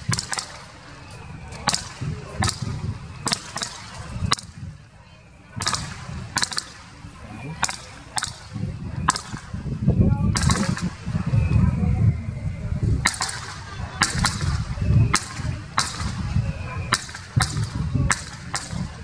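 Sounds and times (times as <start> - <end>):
fireworks bursting with sharp bangs: 0.0 - 12.1, 12.8 - 19.0
low background rumble: 0.0 - 19.0.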